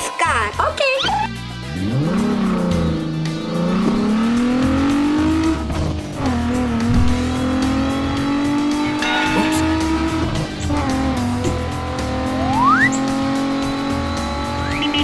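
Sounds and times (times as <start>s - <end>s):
race car engine revving: 1.3s - 15.0s.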